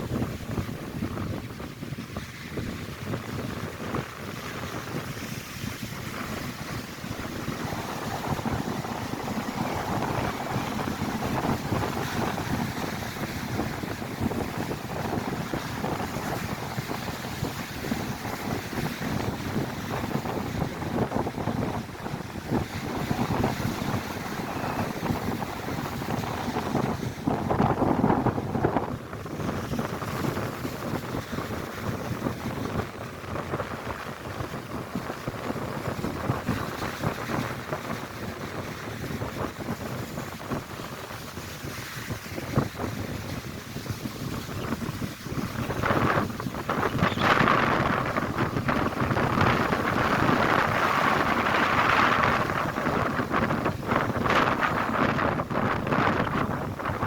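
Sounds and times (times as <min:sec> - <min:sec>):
lake waves crashing on shore: 0:00.0 - 0:57.0
wind buffeting microphone: 0:00.0 - 0:57.0.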